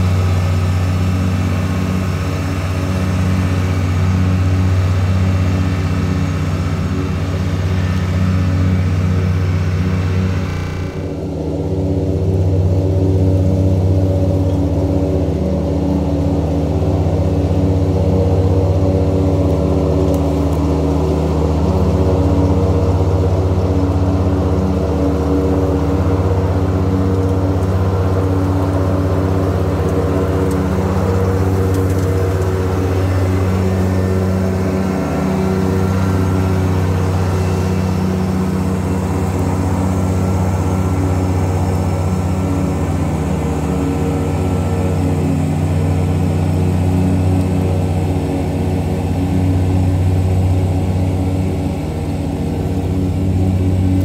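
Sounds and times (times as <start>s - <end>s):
mower engine running: 0.0s - 54.0s.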